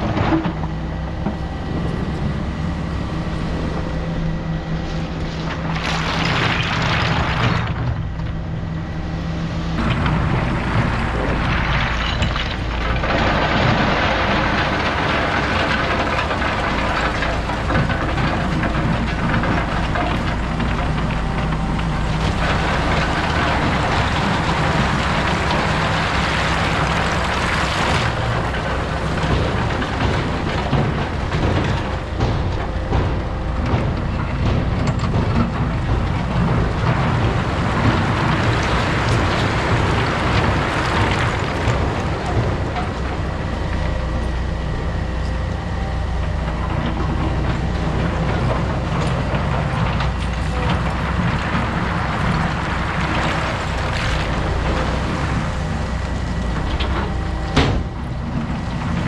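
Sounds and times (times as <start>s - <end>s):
constant rushing noise: 0.0s - 59.0s
heavy diesel equipment running: 0.0s - 59.0s.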